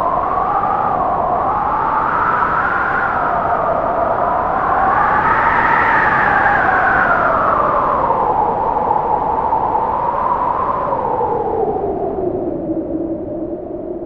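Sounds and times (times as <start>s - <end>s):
wind howling: 0.0s - 14.0s.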